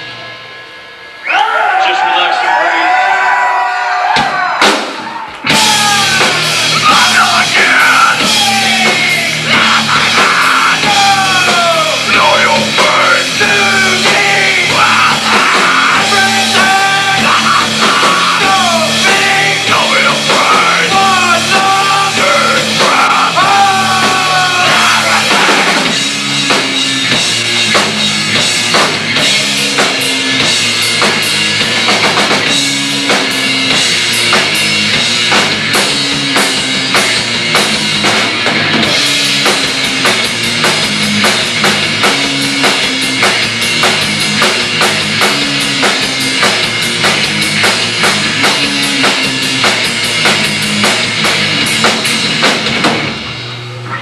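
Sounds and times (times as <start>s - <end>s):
rock band playing loudly: 0.0s - 54.0s.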